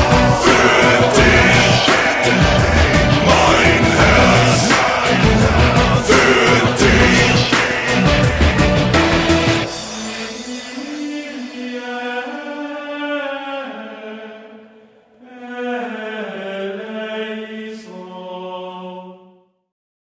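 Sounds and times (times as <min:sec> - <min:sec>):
sung chant of sustained chords: 0:00.0 - 0:19.4.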